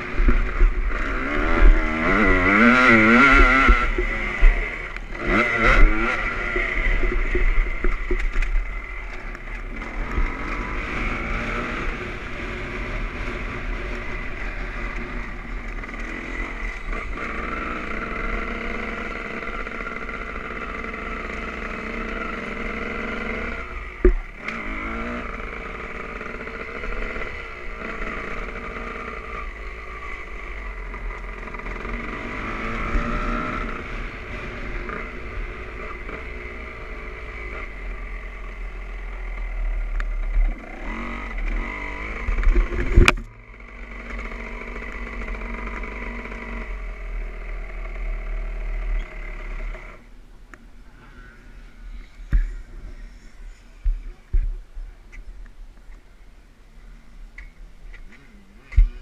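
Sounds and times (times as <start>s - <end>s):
motocross engine revving: 0.0s - 50.1s.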